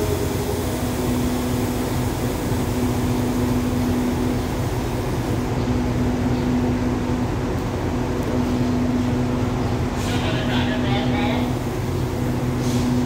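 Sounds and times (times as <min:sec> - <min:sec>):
diesel train idling drone: 0:00.0 - 0:13.0.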